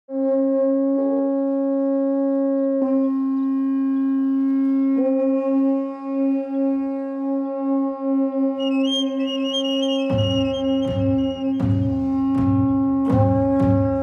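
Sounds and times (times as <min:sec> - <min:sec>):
double-reed horns long held note: 0:00.1 - 0:14.0.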